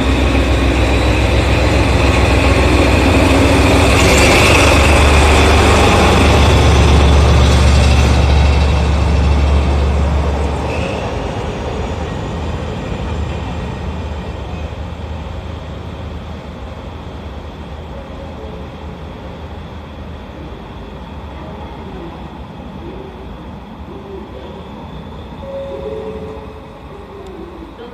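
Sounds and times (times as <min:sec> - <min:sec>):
diesel locomotive engine hum: 0:00.0 - 0:27.9
train wheels rumbling on rails: 0:00.0 - 0:27.9.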